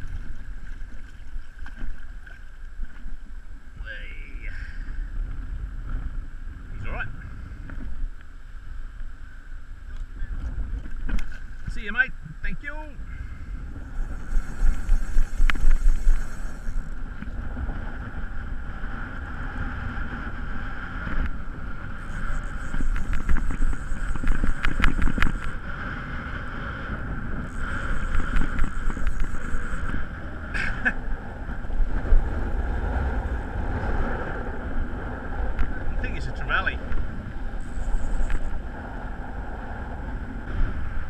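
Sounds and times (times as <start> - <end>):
choppy water: 0.0 - 8.1, 8.7 - 41.0
wind buffeting microphone: 0.0 - 41.0.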